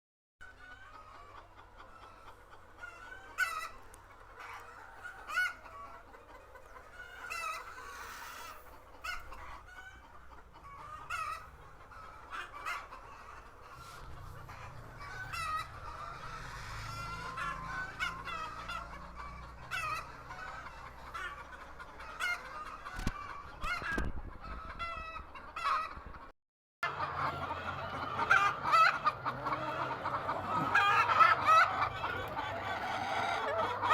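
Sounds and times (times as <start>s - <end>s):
chickens clucking: 0.4s - 33.9s.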